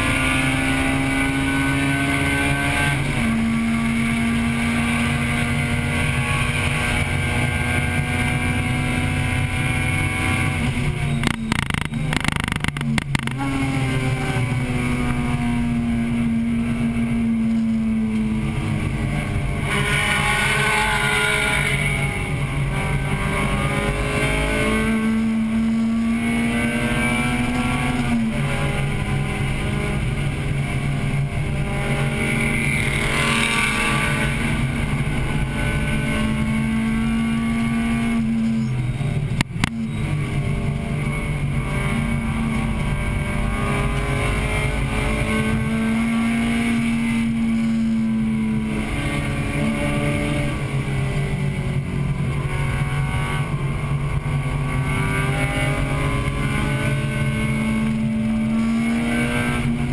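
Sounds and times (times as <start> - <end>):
race car engine running hard: 0.0 - 59.9
wind and road noise: 0.0 - 59.9.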